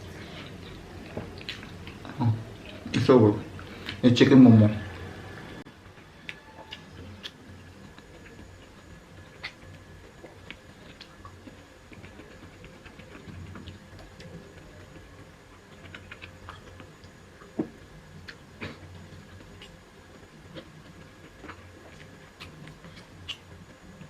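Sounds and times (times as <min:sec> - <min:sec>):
person chewing food: 0:00.0 - 0:02.9, 0:05.9 - 0:24.0.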